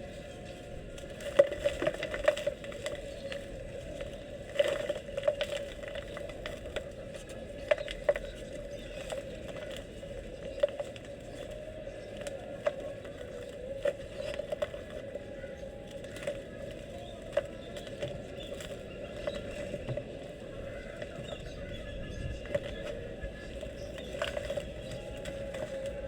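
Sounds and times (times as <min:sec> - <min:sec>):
dirt clods crunching and crackling: 0:00.0 - 0:26.0.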